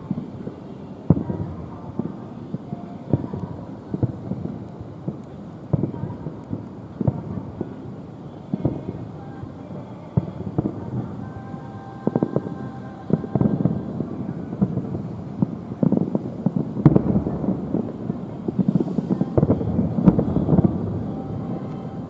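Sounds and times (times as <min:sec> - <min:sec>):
fireworks booming: 0:00.0 - 0:22.0.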